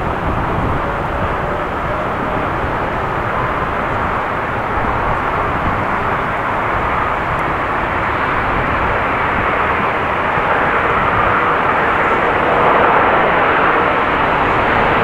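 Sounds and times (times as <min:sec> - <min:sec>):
jet engines with faint whine: 0:00.0 - 0:15.0.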